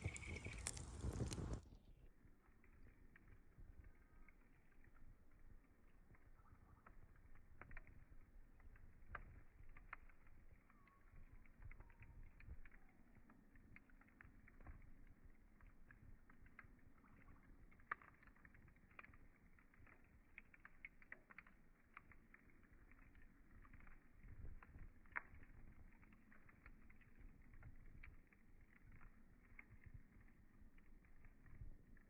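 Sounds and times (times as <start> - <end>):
campfire crackling: 0.0 - 32.0
low rumble of burning: 0.0 - 32.0
sharp fire snaps: 0.0 - 32.0.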